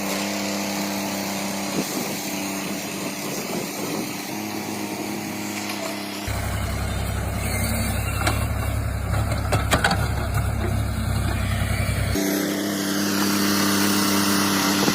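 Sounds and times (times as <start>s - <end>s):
diesel engine rumble: 1.8s - 14.9s.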